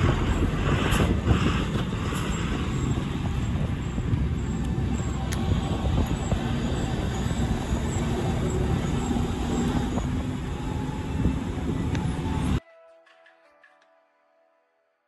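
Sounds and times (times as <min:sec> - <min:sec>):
bus engine and road rumble: 0:00.0 - 0:12.6.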